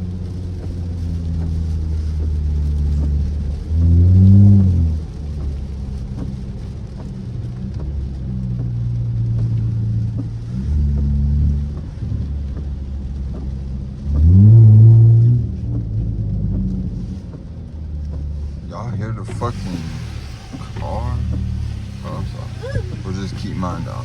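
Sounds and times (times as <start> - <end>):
car exhaust droning and revving: 0.0 - 24.0.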